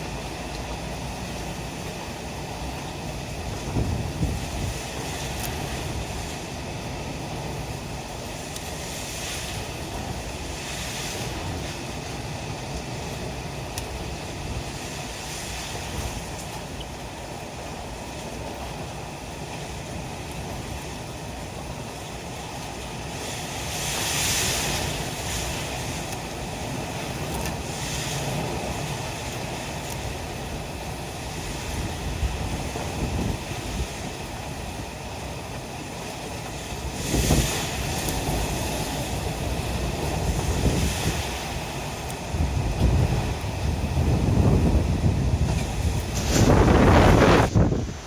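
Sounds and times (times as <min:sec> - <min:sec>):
rain: 0:00.0 - 0:48.0
strong wind buffeting microphone: 0:00.0 - 0:48.0.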